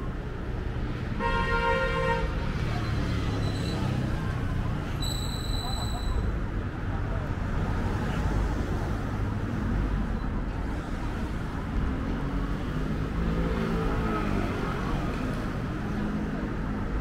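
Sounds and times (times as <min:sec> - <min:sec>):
passing car traffic: 0:00.0 - 0:17.0.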